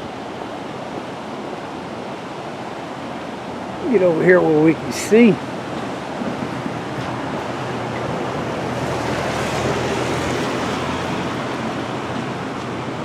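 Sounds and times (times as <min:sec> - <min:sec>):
river water rushing over dam: 0:00.0 - 0:13.0.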